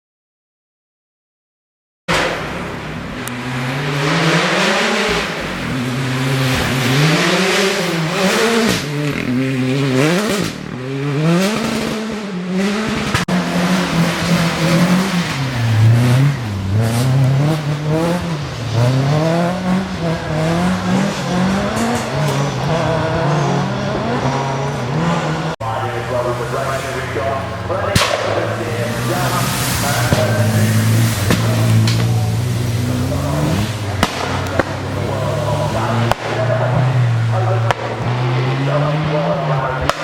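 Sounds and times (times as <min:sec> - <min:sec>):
rally car engine revving: 0:02.1 - 0:40.0.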